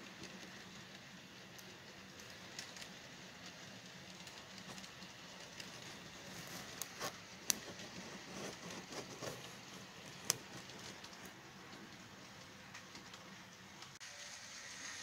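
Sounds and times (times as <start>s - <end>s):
model train cars clicking: 0.0s - 15.0s.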